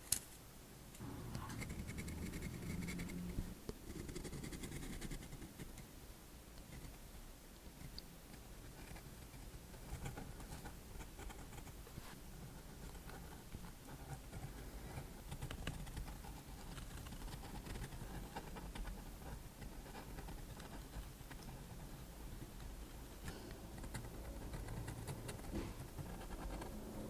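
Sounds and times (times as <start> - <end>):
low room hum: 0.0 - 27.0
pen scratching on paper: 1.2 - 5.7, 8.6 - 11.8, 12.4 - 27.0.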